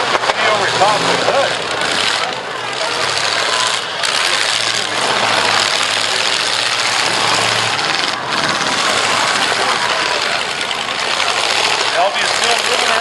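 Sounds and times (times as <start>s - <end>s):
car engine running: 0.0s - 13.0s
harsh rushing noise: 0.0s - 13.0s.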